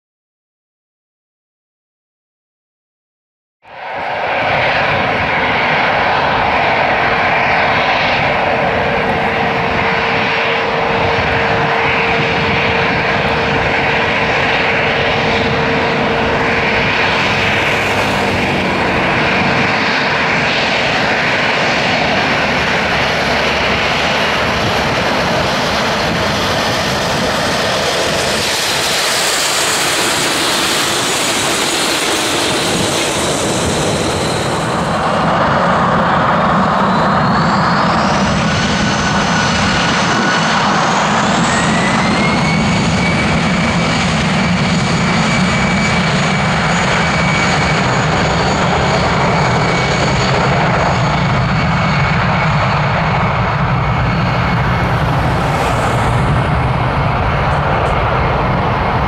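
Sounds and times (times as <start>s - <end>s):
jet engine roar: 3.6s - 59.0s
high-pitched jet whine: 3.7s - 59.0s.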